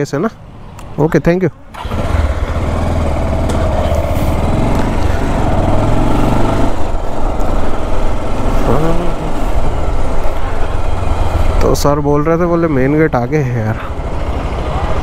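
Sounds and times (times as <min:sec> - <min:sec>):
motorcycle engine accelerating: 0:01.7 - 0:15.0.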